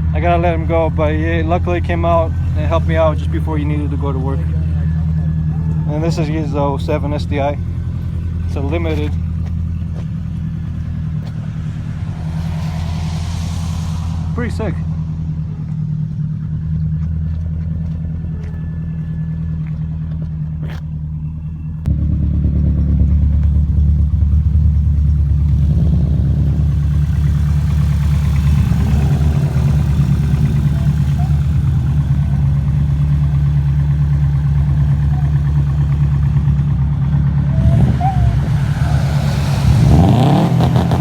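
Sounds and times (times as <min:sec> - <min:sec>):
road noise rushing: 0:00.0 - 0:18.6, 0:21.8 - 0:41.0
car engine running: 0:00.0 - 0:41.0.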